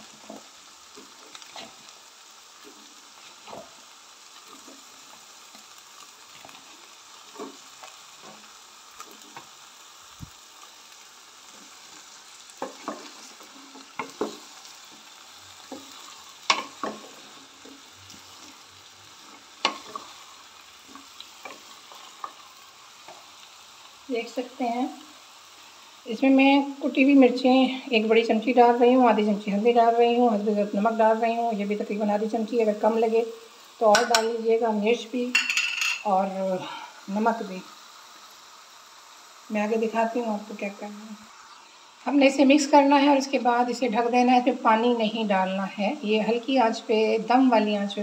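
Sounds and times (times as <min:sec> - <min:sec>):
vegetables sizzling in oil: 0:00.0 - 0:48.0.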